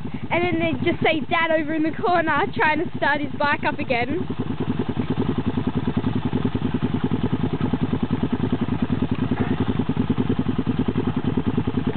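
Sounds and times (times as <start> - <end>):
dirt bike engine running: 0.0 - 11.9.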